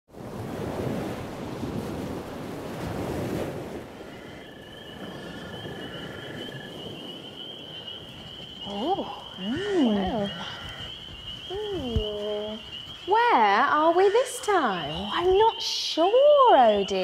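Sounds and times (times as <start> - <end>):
sea waves washing in: 0.1 - 17.0.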